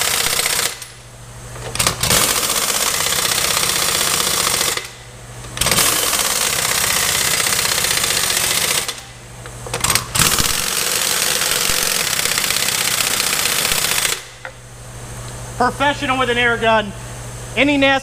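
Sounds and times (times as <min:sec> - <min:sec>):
pneumatic impact wrench hammering: 0:00.0 - 0:14.6.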